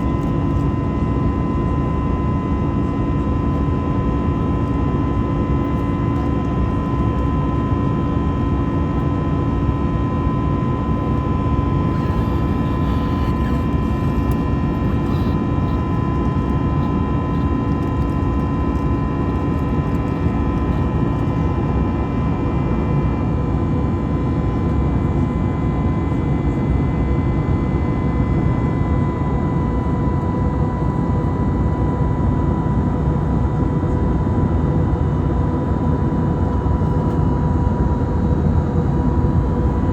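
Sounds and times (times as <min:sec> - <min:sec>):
jet engine rumble and hiss: 0:00.0 - 0:39.9.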